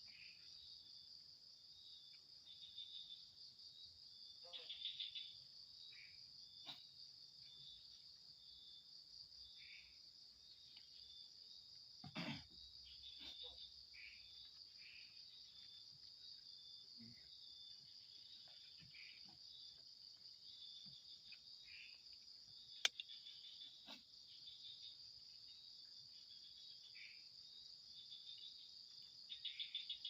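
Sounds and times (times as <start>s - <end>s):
crickets trilling: 0.0s - 30.0s
short insect chirps: 2.1s - 11.7s, 12.5s - 30.0s.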